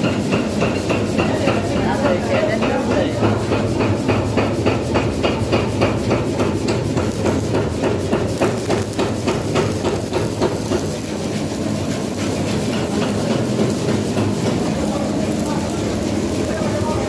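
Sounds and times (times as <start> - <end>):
hammering on metal: 0.0 - 17.0
low machine hum: 0.0 - 17.0.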